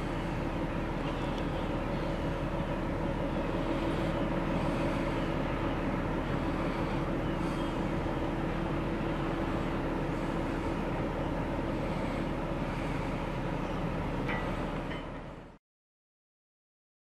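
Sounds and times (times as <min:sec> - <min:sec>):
ship diesel engine droning: 0:00.0 - 0:15.6.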